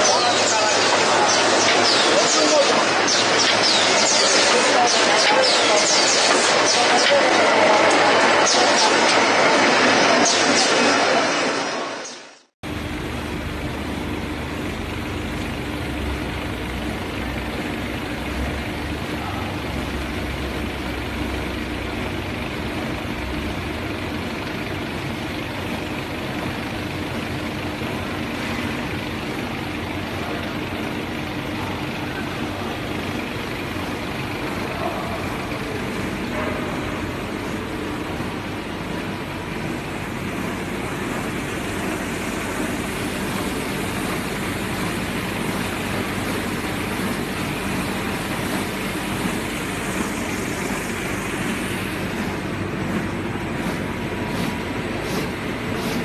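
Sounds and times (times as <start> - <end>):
low mechanical hum: 0.0 - 56.0
paper sheeting machine running: 0.0 - 56.0.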